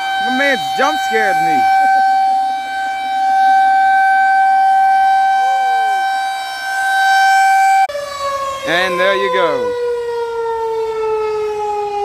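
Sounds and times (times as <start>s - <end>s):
outdoor warning siren steady tone: 0.0s - 12.0s.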